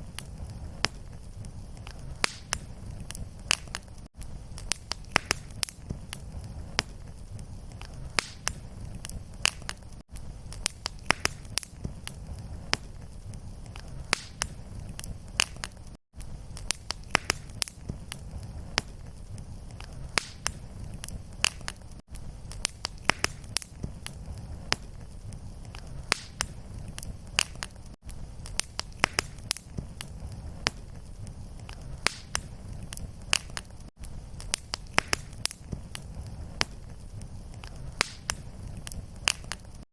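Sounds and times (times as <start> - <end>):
low fire rumble: 0.0 - 39.8
fire popping: 0.0 - 39.9.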